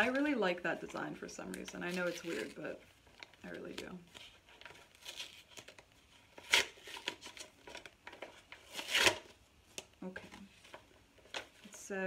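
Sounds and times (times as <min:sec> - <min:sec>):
paper rustling and crinkling: 0:01.4 - 0:09.4, 0:10.1 - 0:11.8.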